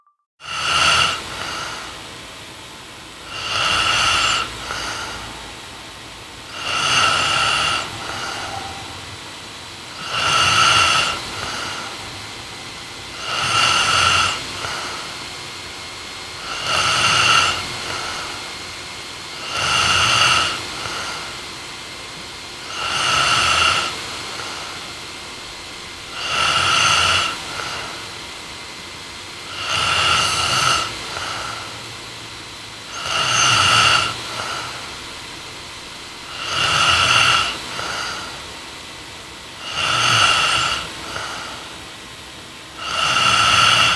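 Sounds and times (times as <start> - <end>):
woman snoring: 0.4 - 15.4, 16.0 - 18.5, 19.3 - 21.5, 22.6 - 28.4, 29.4 - 31.9, 32.9 - 38.6, 39.5 - 41.8, 42.7 - 43.9.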